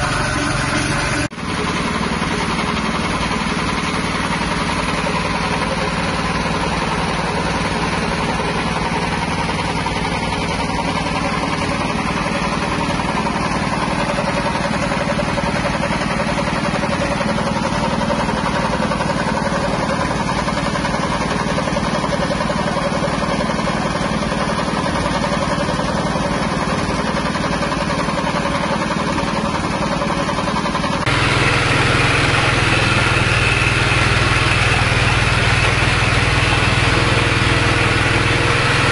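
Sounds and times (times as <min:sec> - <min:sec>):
small petrol engine running: 0:00.0 - 0:38.9.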